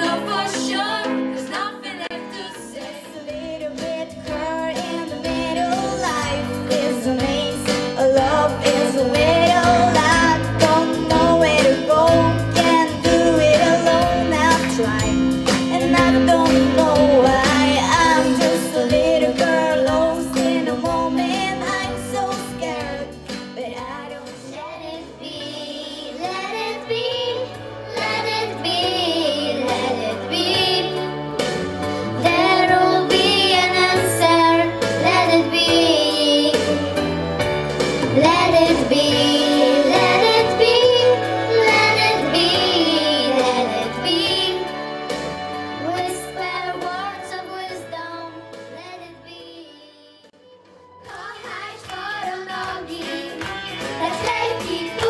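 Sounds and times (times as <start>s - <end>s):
girls singing a pop song: 0.0s - 31.1s, 31.9s - 37.1s, 38.0s - 44.8s, 45.8s - 50.3s, 51.0s - 55.0s
instrumental accompaniment: 0.0s - 55.0s.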